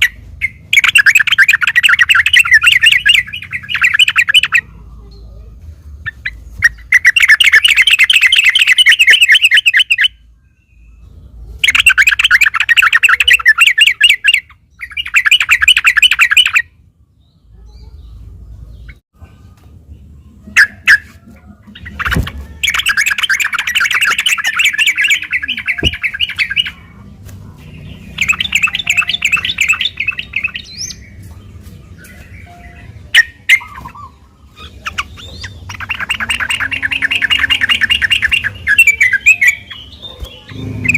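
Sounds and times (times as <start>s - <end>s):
bird singing bubbling song: 0.0s - 5.4s, 6.0s - 19.0s, 21.6s - 27.0s, 27.6s - 40.9s.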